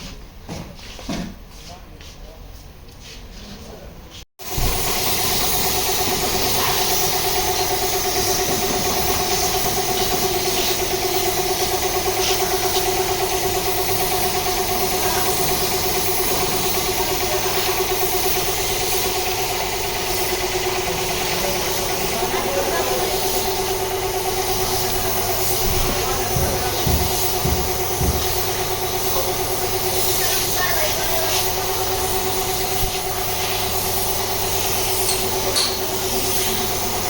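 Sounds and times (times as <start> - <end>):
motor humming: 4.5 - 37.0.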